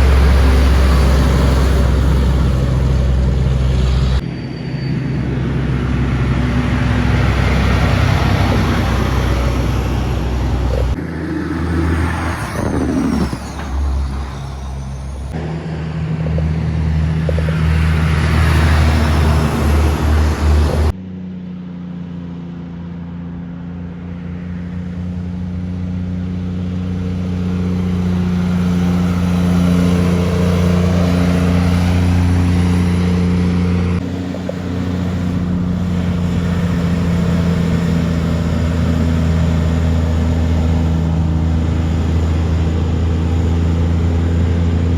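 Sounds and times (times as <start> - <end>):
diesel truck engines driving past: 0.0 - 44.9.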